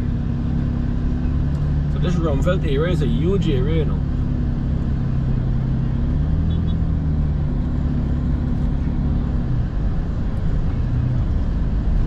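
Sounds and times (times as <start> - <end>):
truck engine hum: 0.0 - 12.0
tyre and road noise: 0.0 - 12.0.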